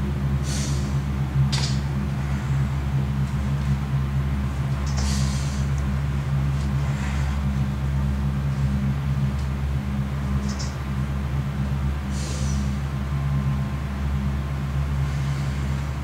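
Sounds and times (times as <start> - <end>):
low droning rumble: 0.0 - 16.0.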